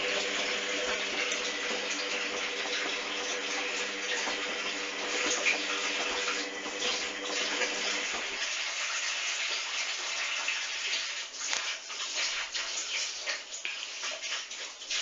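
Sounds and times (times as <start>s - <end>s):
washing machine hum: 0.0s - 15.0s
water rushing and splashing: 0.0s - 15.0s.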